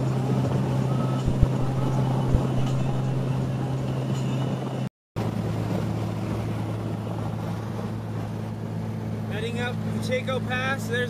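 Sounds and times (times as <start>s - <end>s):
car engine drone: 0.0s - 10.0s
road and wind noise: 0.0s - 11.0s.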